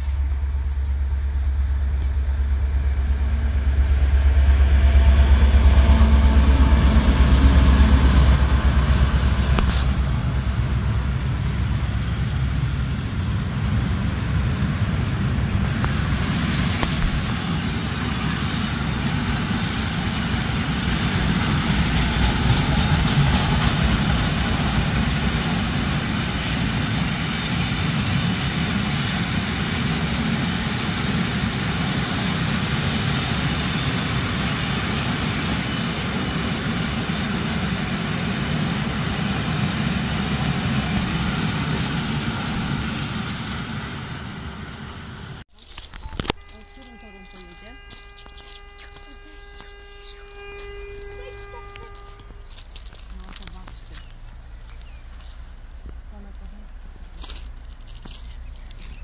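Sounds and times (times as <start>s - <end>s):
diesel locomotive engine drone: 0.0s - 59.0s
train wagons rumbling and clattering: 0.0s - 59.0s.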